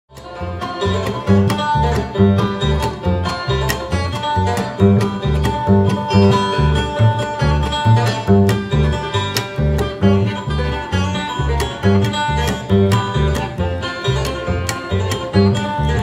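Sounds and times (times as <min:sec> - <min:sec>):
plucked strings ensemble music: 0:00.1 - 0:16.0.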